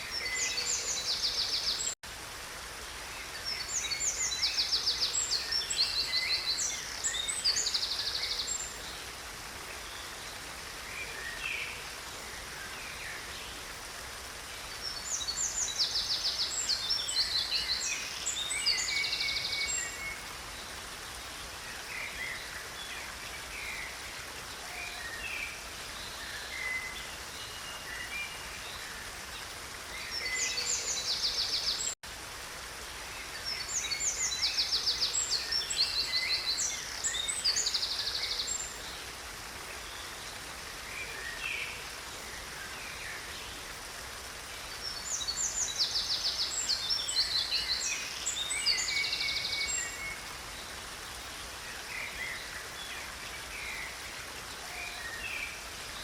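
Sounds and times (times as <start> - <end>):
water rushing in a stream: 0.0 - 56.0.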